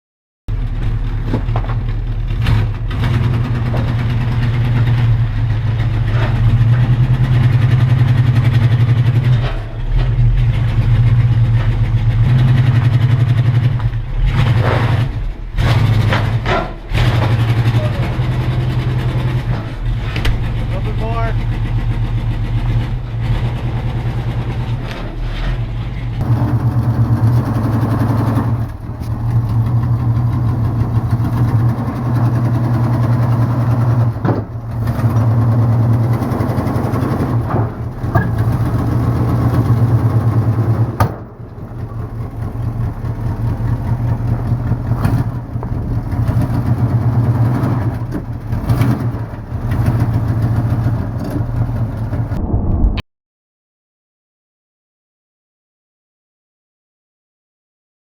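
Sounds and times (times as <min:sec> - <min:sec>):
engine running with pulsing note: 0:00.5 - 0:52.8.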